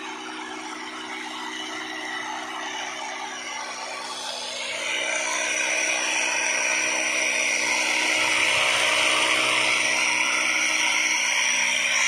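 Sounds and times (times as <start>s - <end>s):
faint motor hum: 0.0s - 12.0s
flour mill whirring grind: 0.0s - 12.0s.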